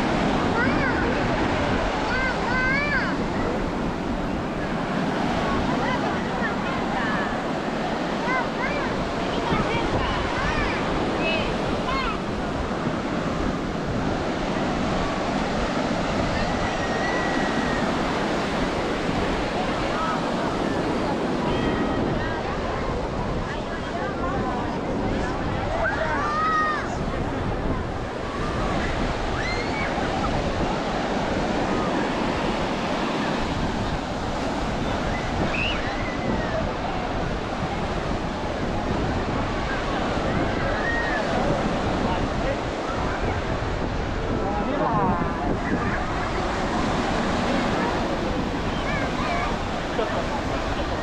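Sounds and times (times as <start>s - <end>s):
ocean surf breaking: 0.0s - 51.0s
wind rumbling on microphone: 0.0s - 51.0s.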